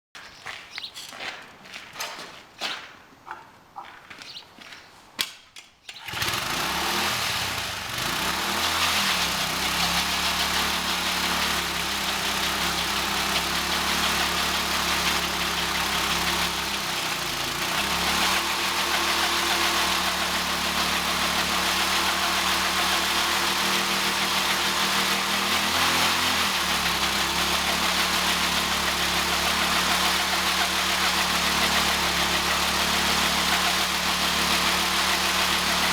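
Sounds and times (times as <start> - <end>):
small engine revving high: 6.0 - 35.9.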